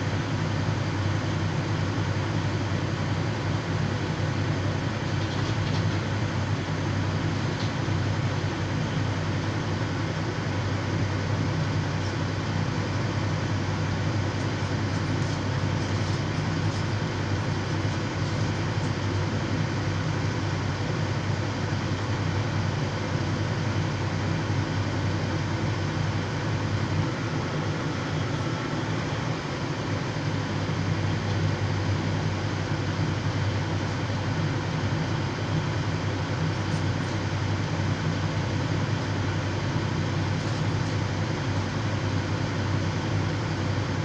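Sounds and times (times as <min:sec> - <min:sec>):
heavy diesel engines droning: 0:00.0 - 0:44.0.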